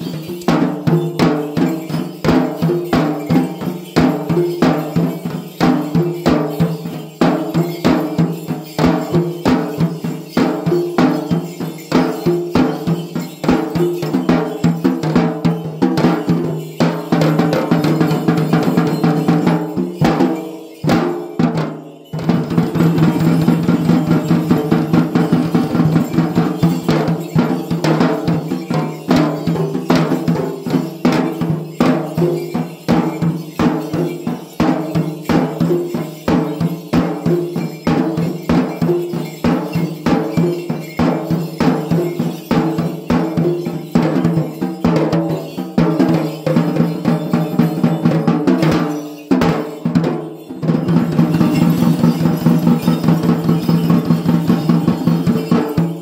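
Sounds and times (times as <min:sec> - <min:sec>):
fast hand drumming on barrel drums: 0:00.0 - 0:56.0.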